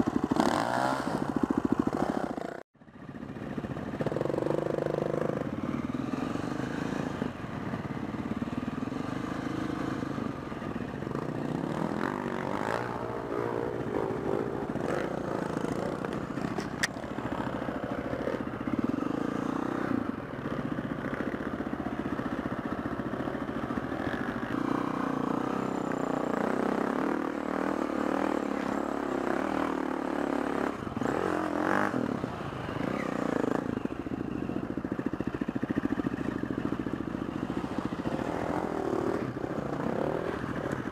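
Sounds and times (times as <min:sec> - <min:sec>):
dirt bike engine revving: 0:00.0 - 0:02.6, 0:04.0 - 0:21.5, 0:23.2 - 0:33.7, 0:37.3 - 0:40.9.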